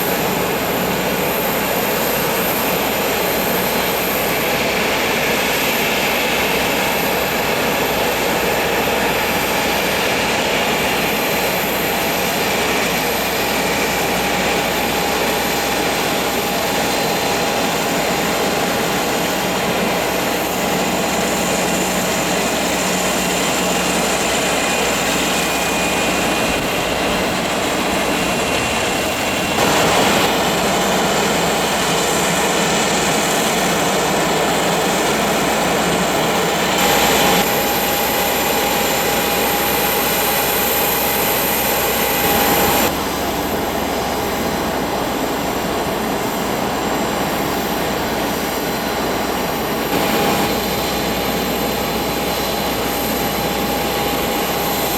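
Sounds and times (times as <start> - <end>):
high engine whine: 0.0 - 54.9
jet engines rushing: 0.0 - 54.9.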